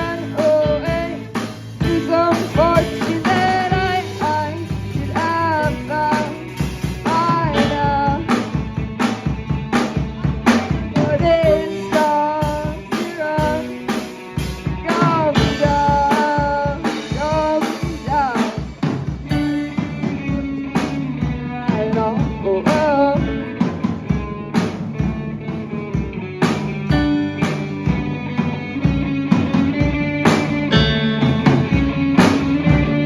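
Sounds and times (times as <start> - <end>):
drum kit beat: 0.0 - 33.0
guitar and bass: 0.0 - 33.0
lead melody with bending notes: 0.0 - 33.0.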